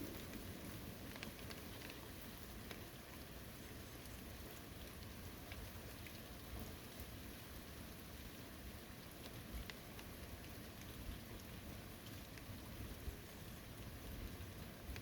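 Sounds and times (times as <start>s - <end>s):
rain falling on forest: 0.0s - 15.0s.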